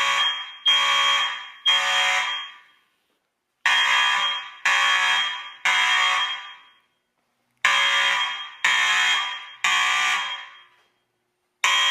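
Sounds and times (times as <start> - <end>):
fire alarm blasts: 0.0 - 3.0, 3.6 - 11.9.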